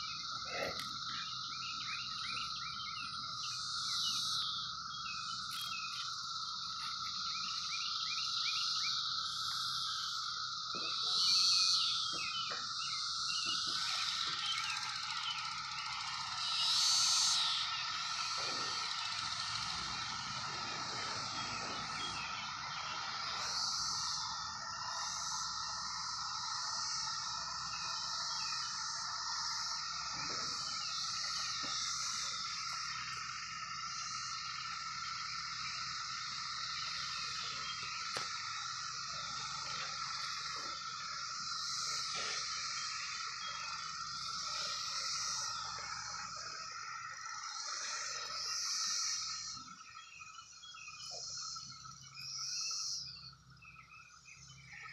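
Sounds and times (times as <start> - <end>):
cicadas droning: 0.0 - 54.9
higher cicada buzzing: 0.0 - 54.9.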